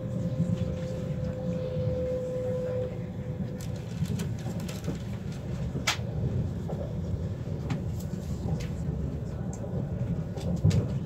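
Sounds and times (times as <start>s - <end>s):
train ride rumble: 0.0s - 11.0s.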